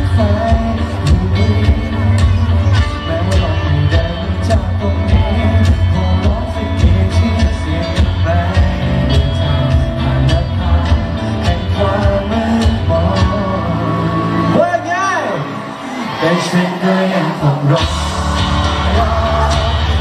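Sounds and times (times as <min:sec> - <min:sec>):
pop backing music with drums: 0:00.0 - 0:15.6, 0:16.2 - 0:20.0
man singing into a microphone: 0:00.0 - 0:20.0.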